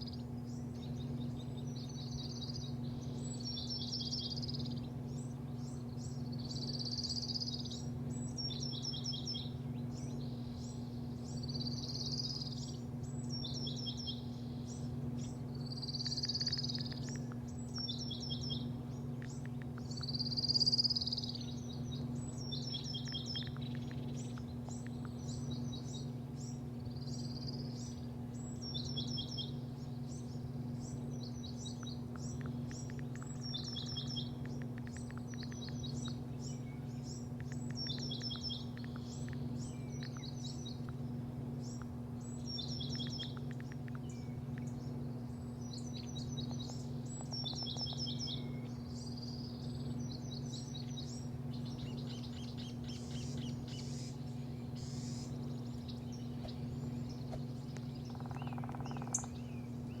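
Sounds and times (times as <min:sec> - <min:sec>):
small birds chirping: 0:00.0 - 1:00.0
steady low hum: 0:00.0 - 1:00.0.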